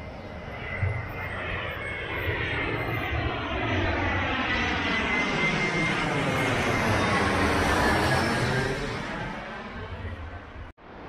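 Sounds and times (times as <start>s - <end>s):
high jet engine whine: 0.0s - 11.0s
jet airliner passing overhead: 0.0s - 11.0s.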